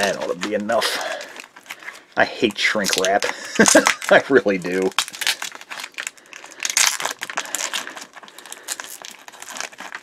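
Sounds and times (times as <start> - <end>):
plastic shrink-wrap crinkling: 0.0 - 10.0.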